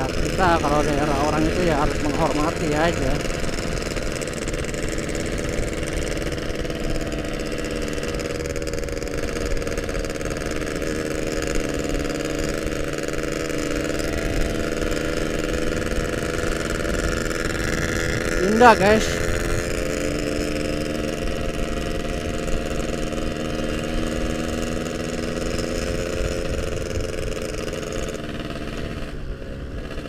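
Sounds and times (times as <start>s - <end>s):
two-stroke motorcycle engine cruising: 0.0s - 30.0s.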